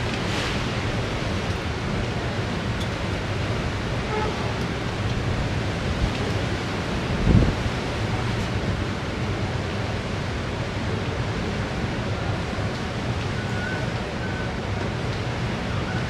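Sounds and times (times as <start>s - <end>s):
wind and sea rushing: 0.0s - 16.0s.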